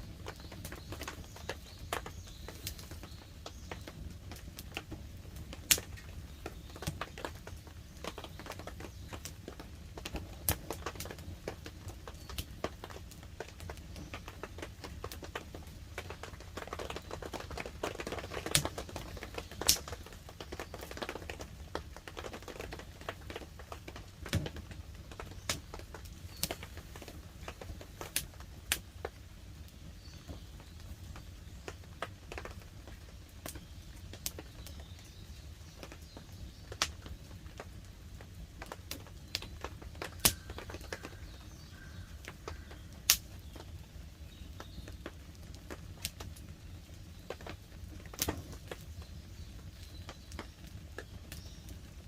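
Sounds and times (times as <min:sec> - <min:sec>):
campfire crackling and popping: 0:00.0 - 0:52.0
faint light rain hiss: 0:00.0 - 0:52.0.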